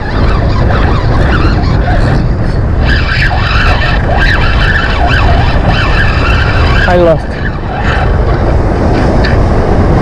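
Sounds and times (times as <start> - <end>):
wavering high squeals: 0.0 - 8.4
wind buffeting microphone: 0.0 - 10.0.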